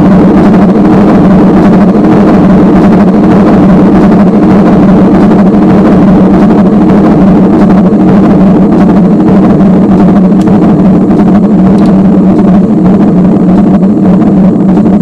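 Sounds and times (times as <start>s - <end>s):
electronic drone: 0.0s - 15.0s.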